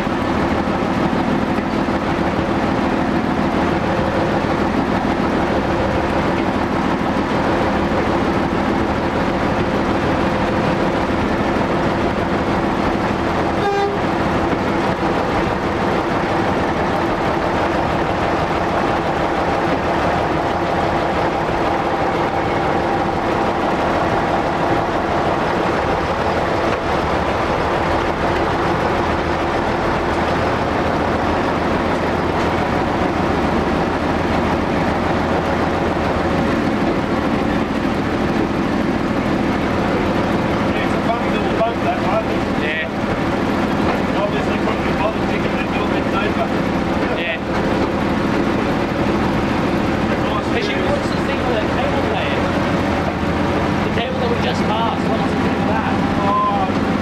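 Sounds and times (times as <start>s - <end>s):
diesel railcar engine: 0.0s - 57.0s
train wheels on rails: 0.0s - 57.0s.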